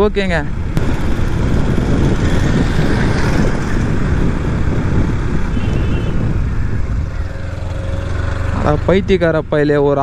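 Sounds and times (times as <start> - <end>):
road noise: 0.0 - 10.0
wind buffeting microphone: 0.0 - 10.0.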